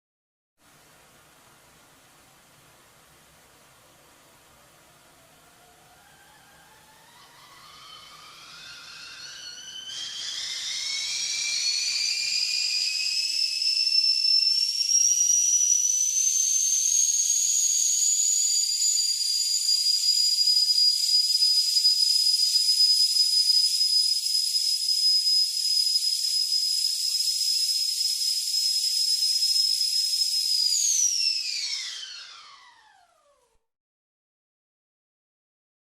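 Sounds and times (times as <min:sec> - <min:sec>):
stovetop kettle whistling: 0:04.4 - 0:33.6.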